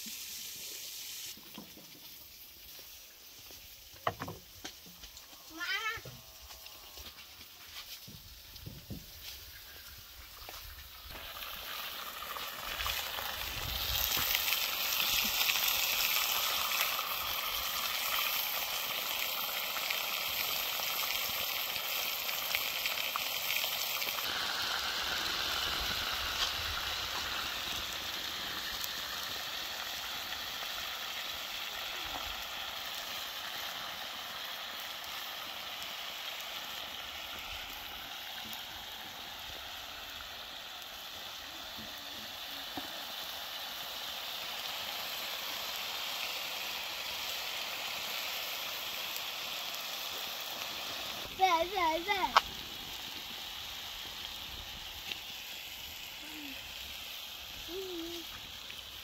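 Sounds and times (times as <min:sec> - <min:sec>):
meat sizzling in a pan: 0:00.0 - 0:59.0.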